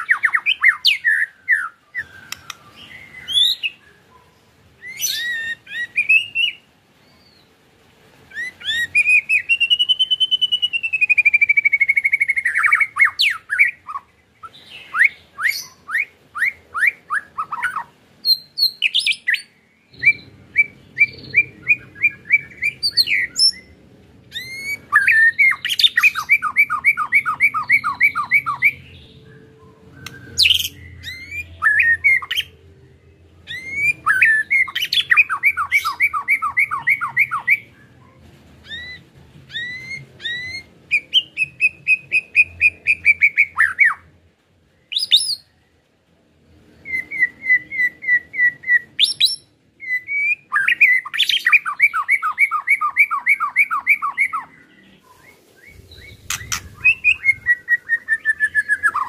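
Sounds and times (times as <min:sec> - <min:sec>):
bird singing rapid chatter: 0:00.0 - 0:07.5, 0:08.3 - 0:32.6, 0:33.4 - 0:44.0, 0:46.9 - 0:59.0.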